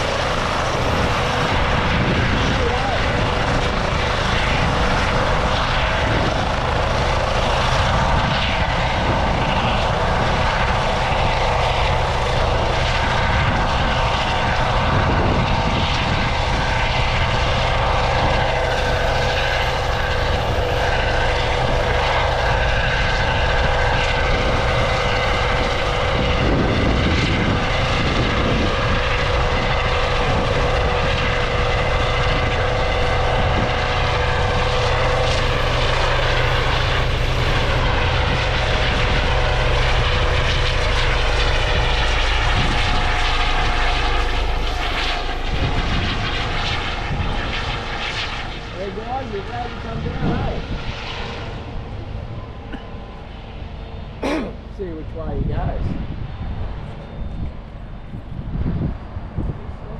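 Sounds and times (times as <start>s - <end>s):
helicopter engine whine and rotor: 0.0s - 59.9s.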